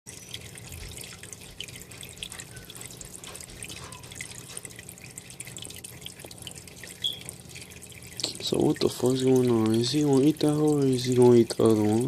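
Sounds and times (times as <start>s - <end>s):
water dripping and trickling: 0.1s - 12.0s.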